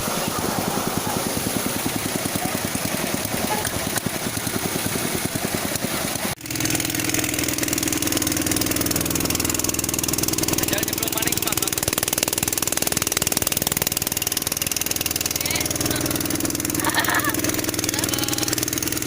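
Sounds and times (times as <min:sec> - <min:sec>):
small engine fast firing beat: 0:00.0 - 0:19.0
steady engine hum: 0:00.0 - 0:19.0.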